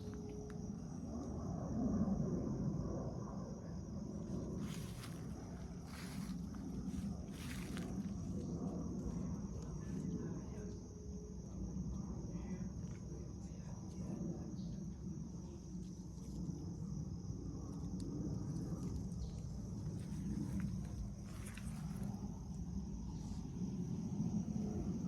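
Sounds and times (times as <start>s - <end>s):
continuous low rumble: 0.0s - 25.0s
insect chorus: 0.0s - 25.0s.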